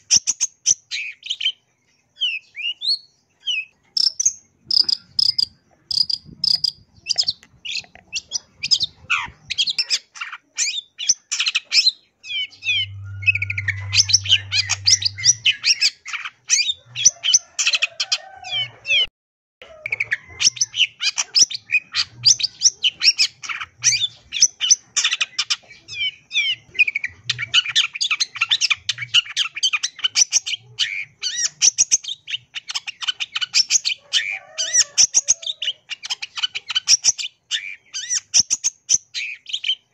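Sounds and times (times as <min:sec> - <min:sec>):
bird singing chirps and trills: 0:00.0 - 0:19.1, 0:19.8 - 0:39.9.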